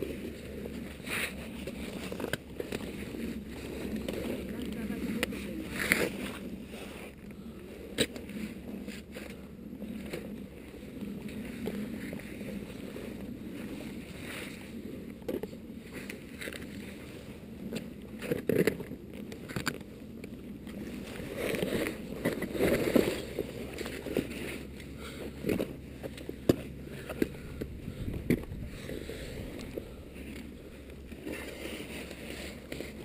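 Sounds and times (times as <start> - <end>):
camera handling rumble: 0.0 - 33.0
knocks and scrapes against rock: 0.0 - 33.0.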